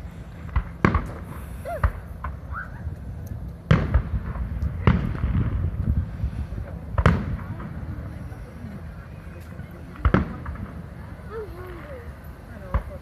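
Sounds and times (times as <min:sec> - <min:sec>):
fireworks booming: 0:00.0 - 0:13.0
low rumbling echo: 0:00.0 - 0:13.0.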